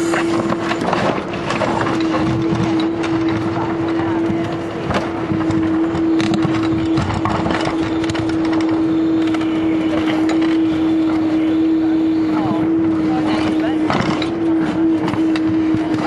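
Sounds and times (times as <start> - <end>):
excavator engine humming: 0.0 - 16.0.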